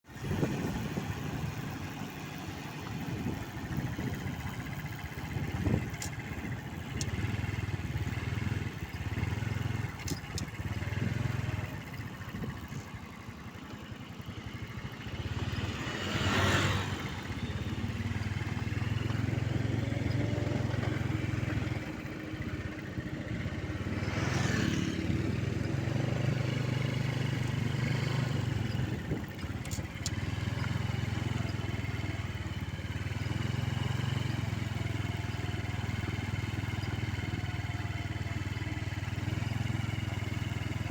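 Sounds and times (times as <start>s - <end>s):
diesel engine running unevenly: 0.1s - 40.9s.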